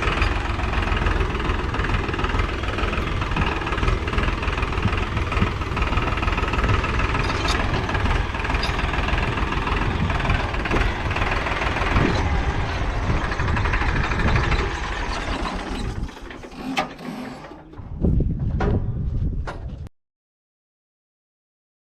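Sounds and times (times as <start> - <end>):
diesel machinery engine clattering: 0.0 - 18.0.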